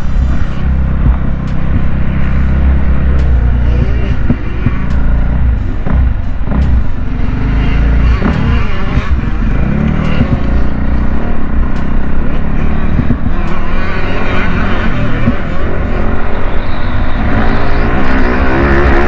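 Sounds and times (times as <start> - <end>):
heavy low rumble: 0.0 - 17.2
motocross bike engines revving: 0.0 - 19.0.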